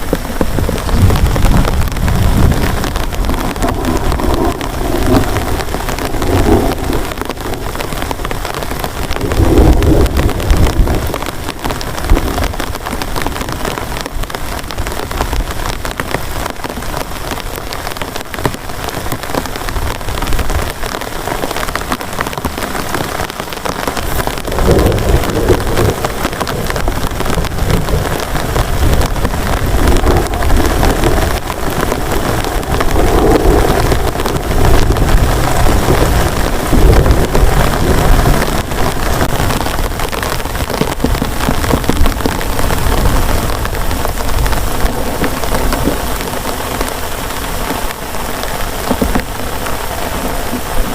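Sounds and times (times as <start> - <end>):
heavy rain falling: 0.0 - 50.9
thunder rumbling: 0.0 - 50.9.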